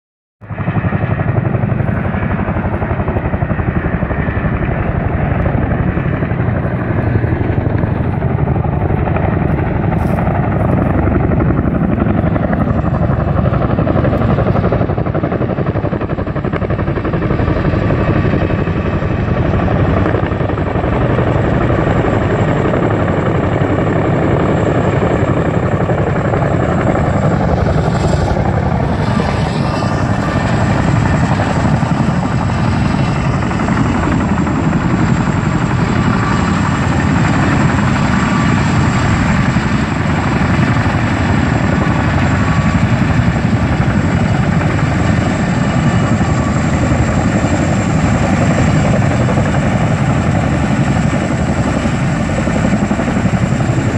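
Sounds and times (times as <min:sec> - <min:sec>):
helicopter rotor chop: 0:00.4 - 0:53.9.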